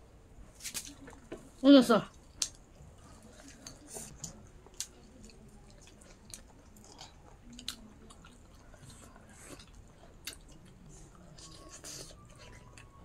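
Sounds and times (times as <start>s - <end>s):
person chewing: 2.1s - 13.0s.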